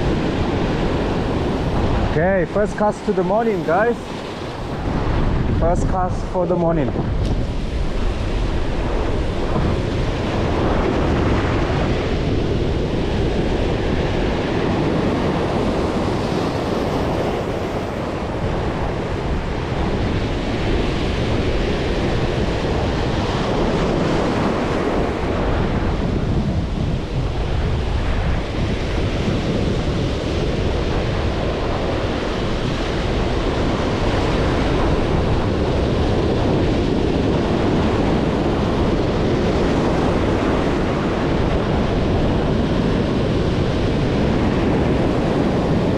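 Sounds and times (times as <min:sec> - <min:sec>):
waves breaking on shore: 0:00.0 - 0:45.9
wind buffeting microphone: 0:00.0 - 0:45.9.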